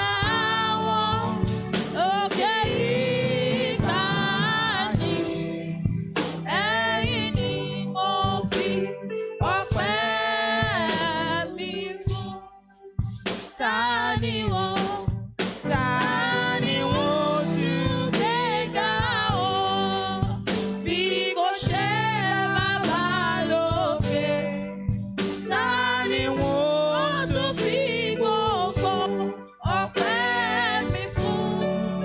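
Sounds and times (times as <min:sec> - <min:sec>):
instrumental accompaniment: 0:00.0 - 0:32.0
person singing gospel song: 0:00.0 - 0:32.0.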